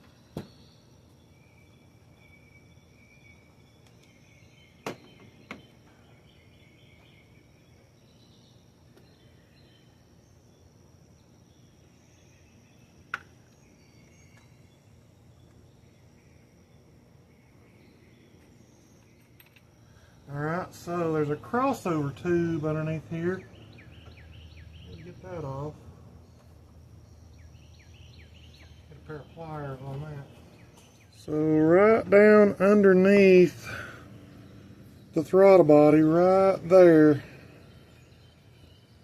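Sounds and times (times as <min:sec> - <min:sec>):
faint insect chirping: 0:00.0 - 0:39.0.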